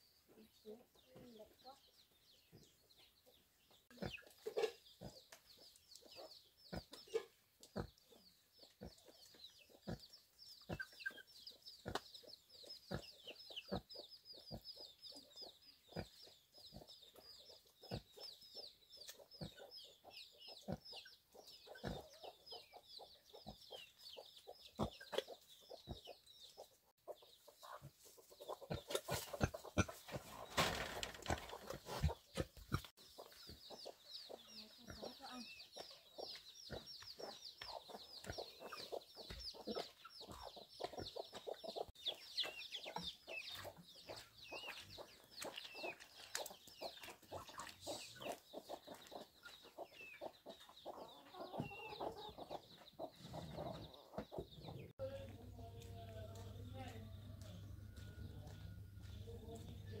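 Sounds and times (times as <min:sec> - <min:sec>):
chickens clucking and peeping: 0:00.0 - 1:00.0.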